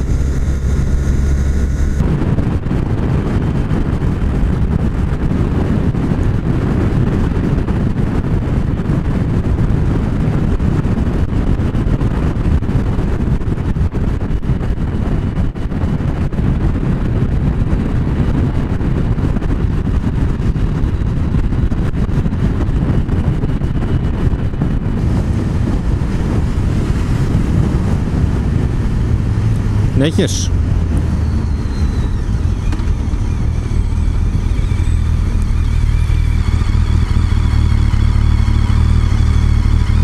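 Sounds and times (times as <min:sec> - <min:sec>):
motorcycle road and engine noise: 0:00.0 - 0:40.0
wind rushing over microphone: 0:00.0 - 0:40.0.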